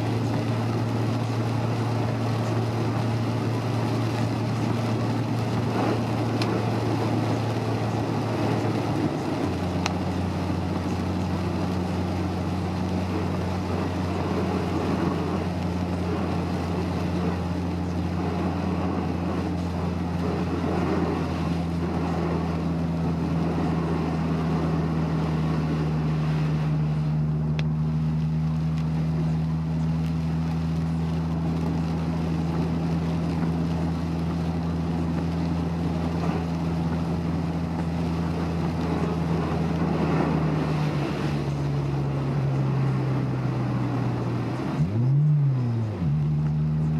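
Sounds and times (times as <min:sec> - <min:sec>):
car engine running: 0:00.0 - 0:46.9
road and wind noise: 0:00.0 - 0:46.9.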